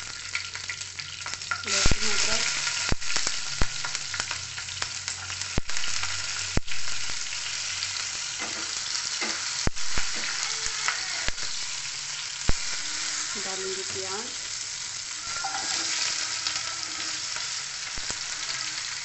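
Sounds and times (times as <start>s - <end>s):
oil sizzling: 0.0s - 19.0s
sharp crackles of frying: 0.0s - 19.0s.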